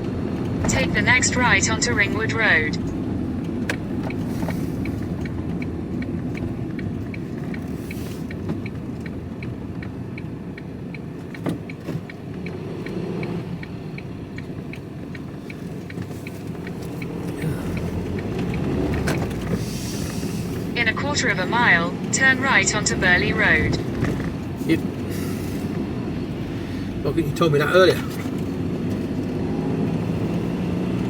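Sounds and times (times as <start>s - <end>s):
engine and road rumble: 0.0s - 31.0s
turn signal ticking: 0.0s - 31.0s.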